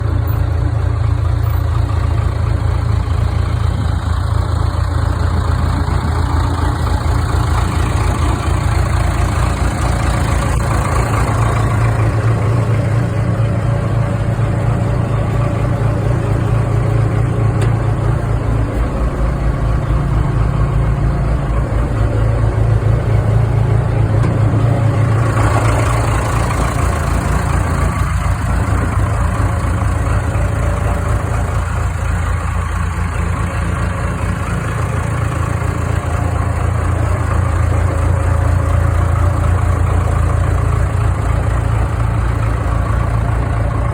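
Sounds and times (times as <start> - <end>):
backhoe engine running: 0.0 - 43.9.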